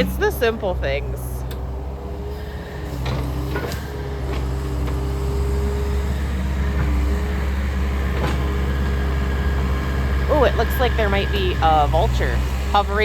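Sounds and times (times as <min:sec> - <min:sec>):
excavator diesel drone: 0:00.0 - 0:13.0
hydraulic whine: 0:00.0 - 0:13.0.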